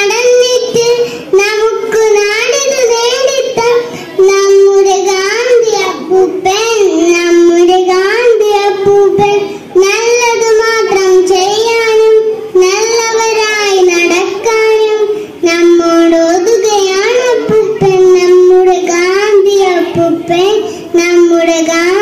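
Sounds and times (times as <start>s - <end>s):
girl singing into a microphone: 0.0s - 22.0s.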